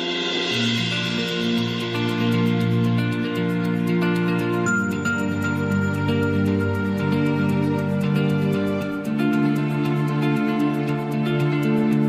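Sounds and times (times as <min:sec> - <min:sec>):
instrumental music with long held notes: 0:00.0 - 0:12.0.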